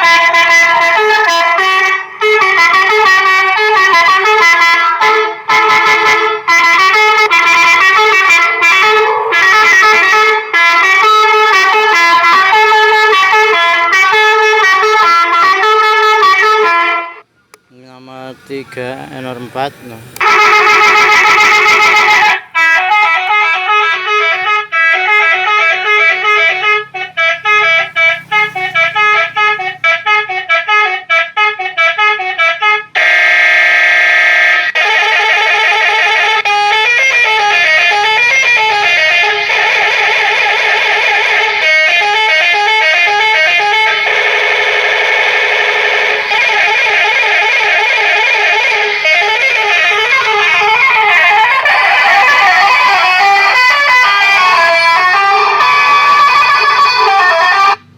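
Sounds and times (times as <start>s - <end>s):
multi-note horn tunes: 0.0s - 17.2s, 17.9s - 57.8s.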